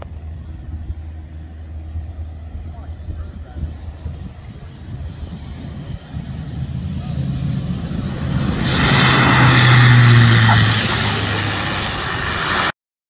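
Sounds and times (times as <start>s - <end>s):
propeller aircraft passing: 0.0s - 12.7s.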